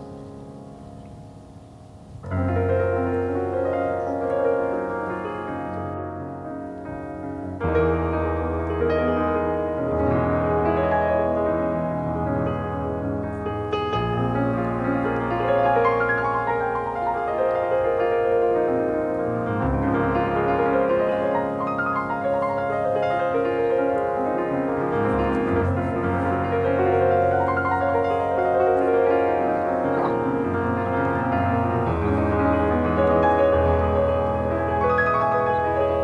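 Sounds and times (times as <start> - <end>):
soft relaxing piano music: 0.0 - 36.0.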